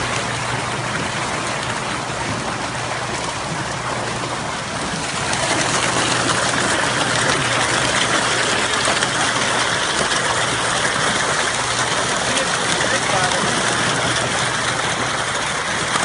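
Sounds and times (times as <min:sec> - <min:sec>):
fish thrashing and splashing: 0:00.0 - 0:16.0
low steady hum: 0:00.0 - 0:16.0.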